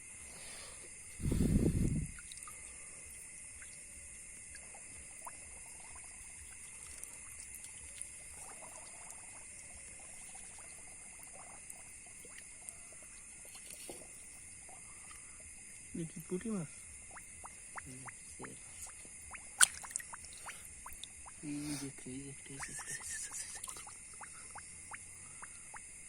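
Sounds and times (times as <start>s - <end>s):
night insects droning: 0.0s - 26.0s
water trickling and splashing: 0.9s - 26.0s.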